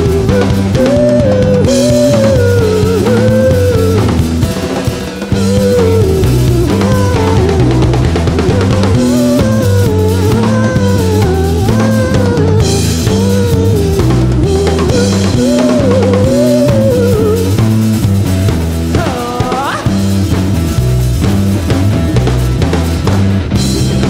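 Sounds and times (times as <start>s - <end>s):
bass guitar: 0.0s - 24.0s
drum kit: 0.0s - 24.0s
electric guitar lead line: 0.0s - 24.0s.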